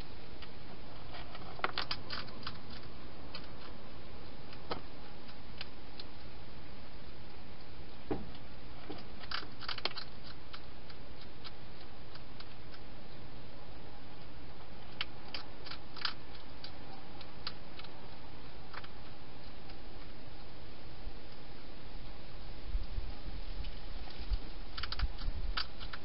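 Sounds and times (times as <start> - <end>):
background hiss: 0.0 - 26.0
hedgehog crunching food: 0.4 - 7.8, 8.4 - 20.5, 24.0 - 26.0.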